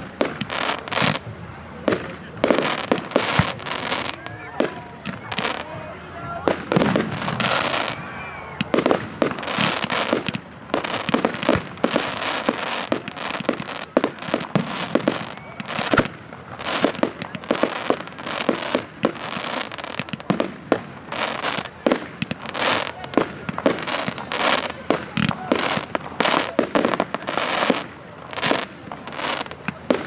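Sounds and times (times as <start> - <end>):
fireworks banging: 0.0 - 30.0
fireworks crackling: 0.0 - 30.0.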